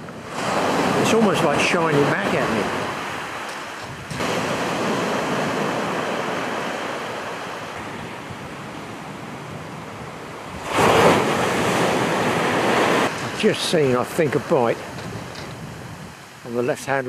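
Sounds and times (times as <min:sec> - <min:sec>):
waves breaking on shingle beach: 0:00.0 - 0:16.7.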